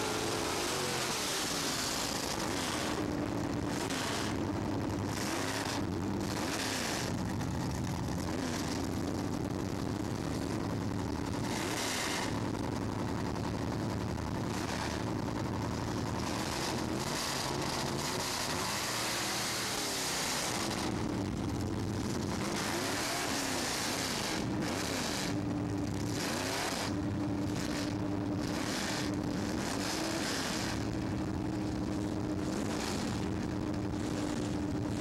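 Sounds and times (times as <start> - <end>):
constant rushing noise: 0.0 - 35.0
race car engines revving: 0.0 - 35.0.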